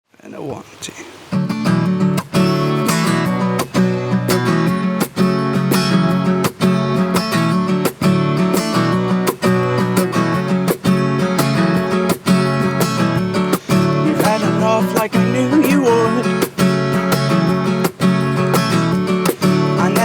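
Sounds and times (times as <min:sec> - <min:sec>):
acoustic guitar strumming: 0:01.2 - 0:20.0.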